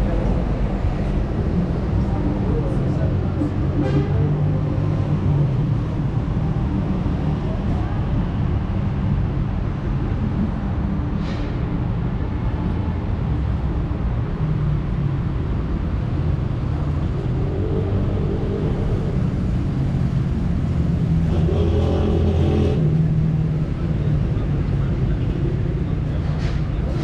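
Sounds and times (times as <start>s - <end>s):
car engines running: 0.0s - 27.0s.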